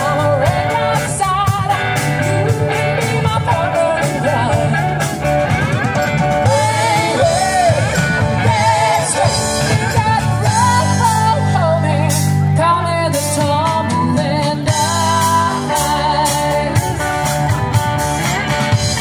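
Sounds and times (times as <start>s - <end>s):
person singing: 0.0s - 5.2s, 6.4s - 17.4s
rock band playing: 0.0s - 19.0s.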